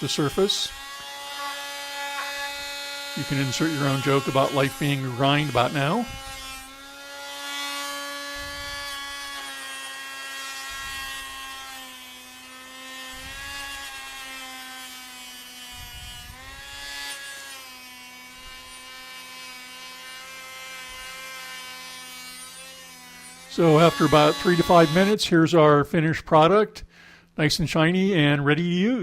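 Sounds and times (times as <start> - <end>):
die grinder motor whine: 0.0 - 25.2.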